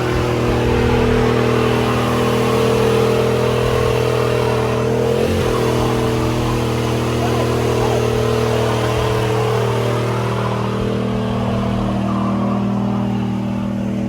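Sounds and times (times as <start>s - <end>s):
truck engine high revs: 0.0s - 14.0s.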